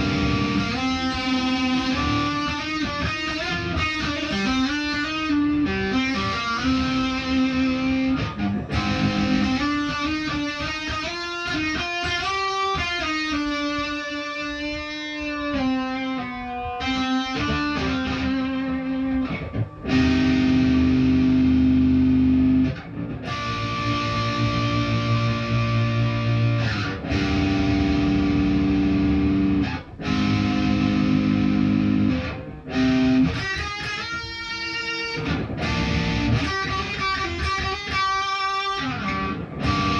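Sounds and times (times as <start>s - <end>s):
electric guitar chords: 0.0s - 39.9s
electric guitar single-note lines: 0.0s - 39.9s.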